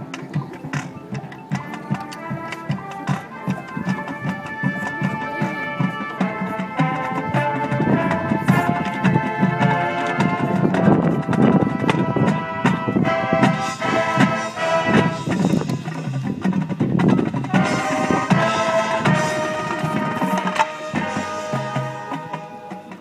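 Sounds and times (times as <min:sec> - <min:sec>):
brass chords: 0:00.0 - 0:16.4, 0:17.4 - 0:23.0
drums and percussion: 0:00.0 - 0:23.0.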